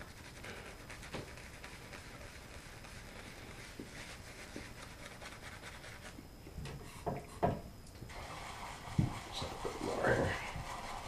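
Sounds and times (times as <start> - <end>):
shaving brush rubbing lather: 0.0 - 6.2, 8.1 - 11.0.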